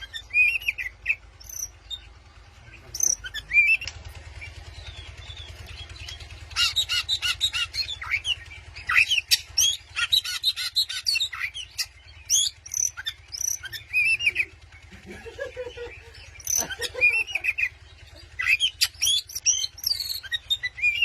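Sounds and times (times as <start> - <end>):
bird singing varied song: 0.0 - 21.0
steady low hum: 0.0 - 21.0.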